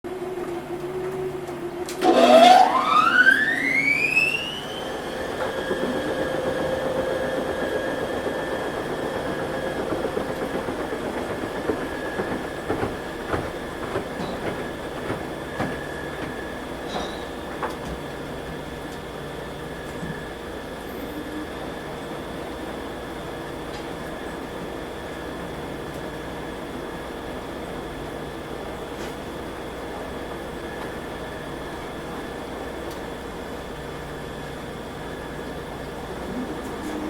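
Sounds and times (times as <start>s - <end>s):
washing machine motor whine: 0.1s - 37.0s.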